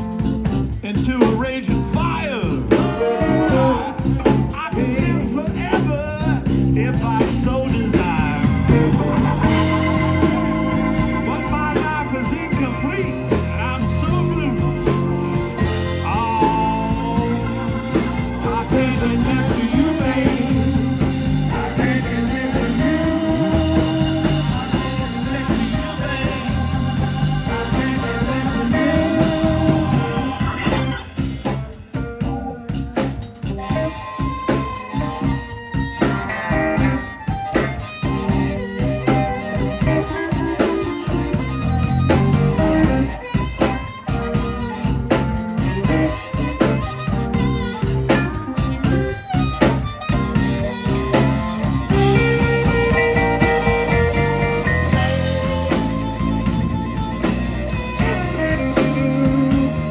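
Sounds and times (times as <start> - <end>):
blues band playing: 0.0 - 59.9
harmonica solo: 2.0 - 59.9.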